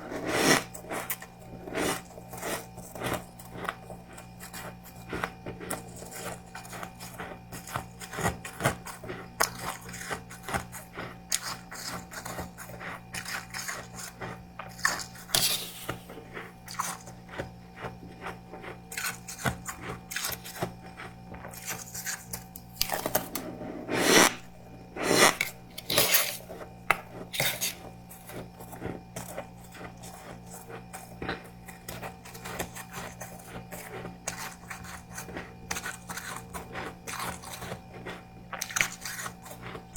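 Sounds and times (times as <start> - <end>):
chewing crisp freezer frost: 0.0 - 39.9.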